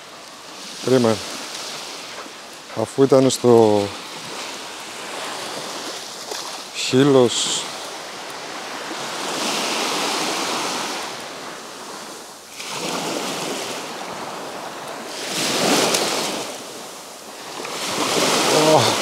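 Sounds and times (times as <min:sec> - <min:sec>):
small waves breaking on beach: 0:00.0 - 0:19.0.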